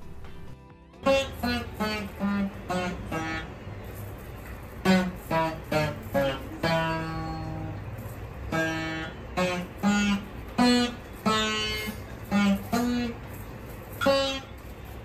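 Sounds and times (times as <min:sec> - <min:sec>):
plucked veena notes: 0:01.0 - 0:13.3, 0:13.9 - 0:15.0.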